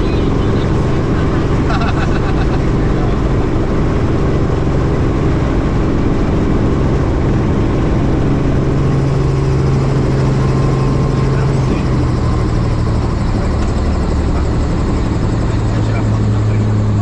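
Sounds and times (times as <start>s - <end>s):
helicopter rotor and engine drone: 0.0s - 17.0s
low hum: 0.0s - 17.0s.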